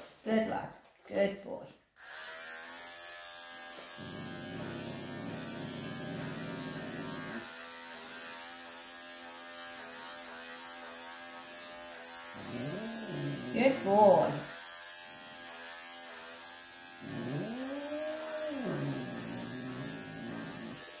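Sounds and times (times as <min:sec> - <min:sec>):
electric clipper motor hum: 0:02.0 - 0:21.0.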